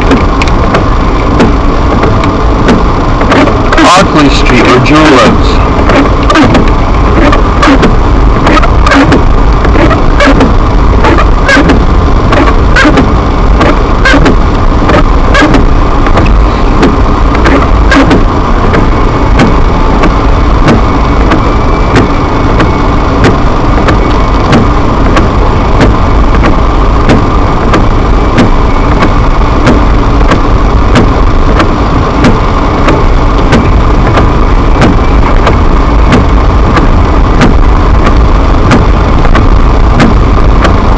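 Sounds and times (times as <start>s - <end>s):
car road and engine noise: 0.0s - 40.9s
sharp clicks or knocks: 5.8s - 40.8s.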